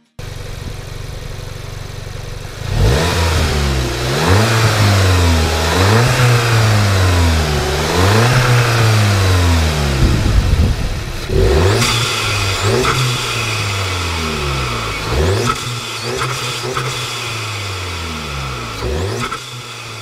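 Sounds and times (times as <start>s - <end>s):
car engine revving: 0.2s - 20.0s.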